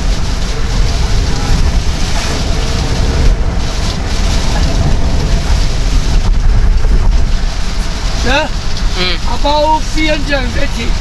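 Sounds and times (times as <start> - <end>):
low car rumble: 0.0 - 11.0
tyres hissing on wet road: 0.0 - 11.0.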